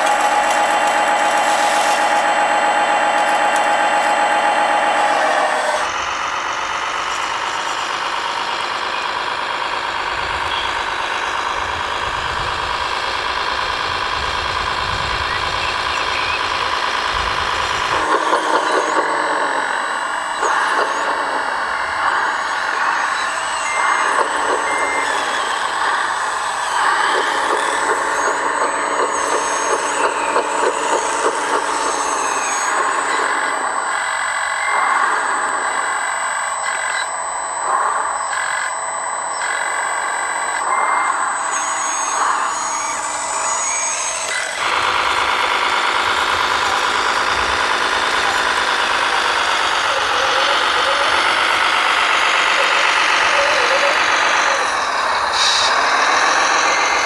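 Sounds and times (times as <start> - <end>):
electric motors whining: 0.0 - 57.0
sound module engine noise: 0.0 - 57.0.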